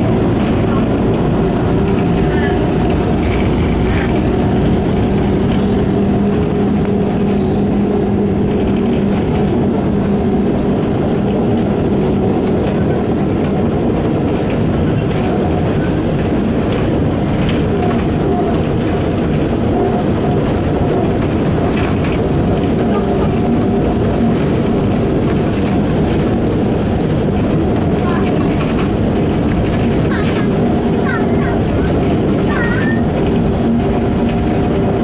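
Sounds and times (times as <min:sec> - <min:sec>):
bus body rattling: 0:00.0 - 0:35.0
bus engine drone: 0:00.0 - 0:35.0
road noise: 0:00.0 - 0:35.0.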